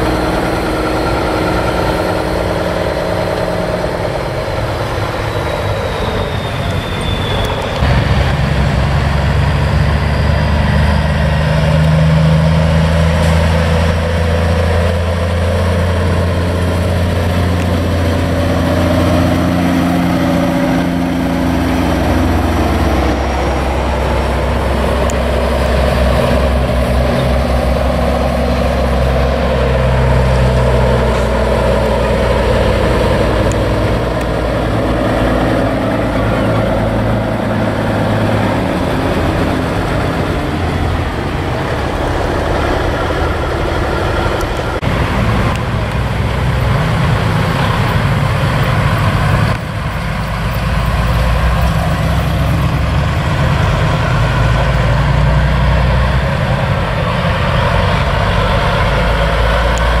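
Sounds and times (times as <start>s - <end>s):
diesel truck engines passing: 0.0s - 60.0s.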